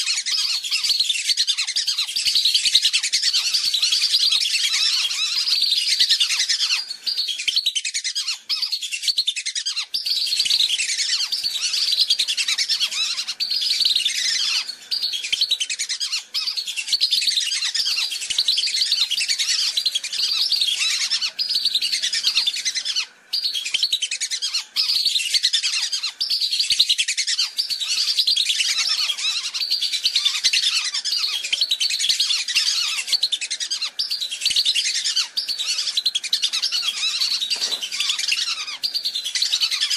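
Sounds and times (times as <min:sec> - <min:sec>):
whistling ducks calling: 0:00.0 - 0:39.9.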